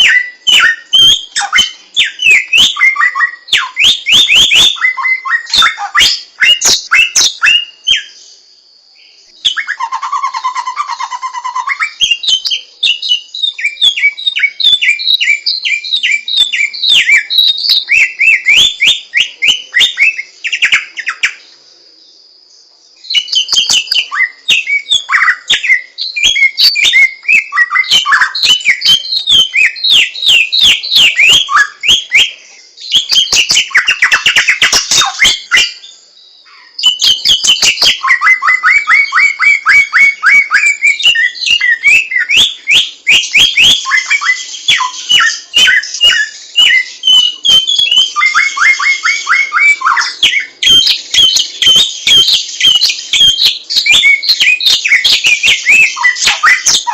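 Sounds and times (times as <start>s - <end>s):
songbird whistled song: 0.0s - 56.9s.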